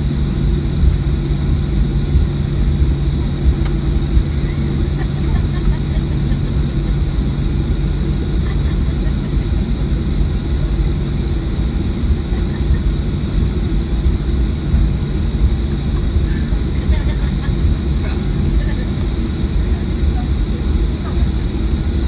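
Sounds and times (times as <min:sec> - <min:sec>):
jet engines idling in cabin: 0:00.0 - 0:22.0.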